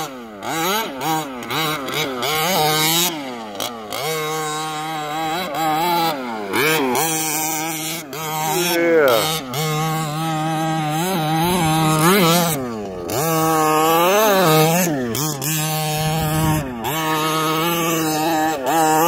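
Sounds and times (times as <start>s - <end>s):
small two-stroke engine revving: 0.0s - 19.0s.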